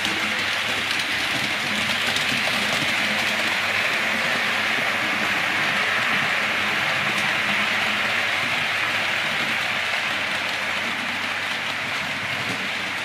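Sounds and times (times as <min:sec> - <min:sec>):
model train rolling hiss: 0:00.0 - 0:13.0.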